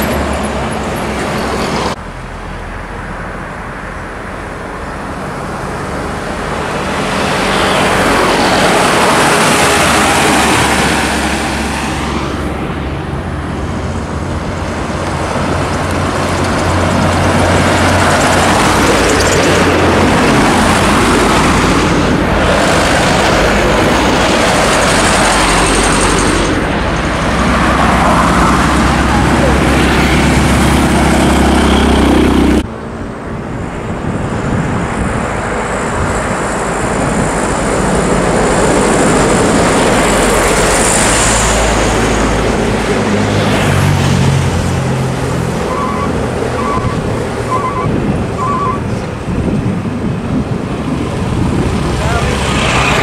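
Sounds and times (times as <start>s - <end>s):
trucks passing on highway: 0.0s - 53.0s
tyre and road noise: 0.0s - 53.0s.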